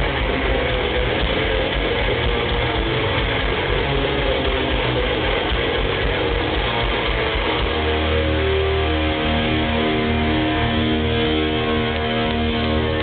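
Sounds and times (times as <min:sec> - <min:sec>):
distorted electric guitars: 0:00.0 - 0:13.0
low drone: 0:00.0 - 0:13.0
metal band playing live: 0:00.0 - 0:13.0.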